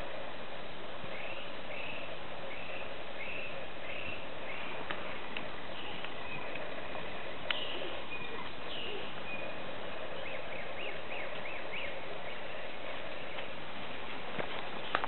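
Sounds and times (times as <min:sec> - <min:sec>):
outdoor background hiss: 0:00.0 - 0:15.0
small birds chirping: 0:01.0 - 0:15.0.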